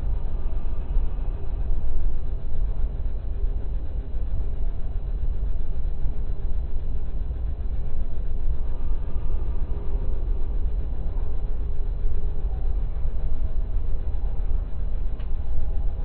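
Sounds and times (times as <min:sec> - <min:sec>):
freight cars rumbling on rails: 0:00.0 - 0:16.0.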